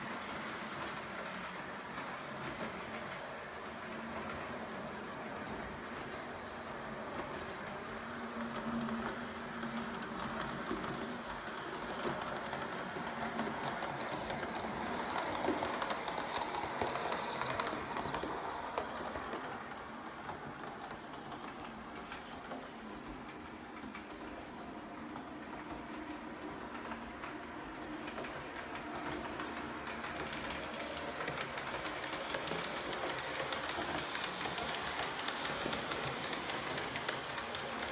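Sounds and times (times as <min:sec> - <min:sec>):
model train rolling rumble: 0:00.0 - 0:37.9.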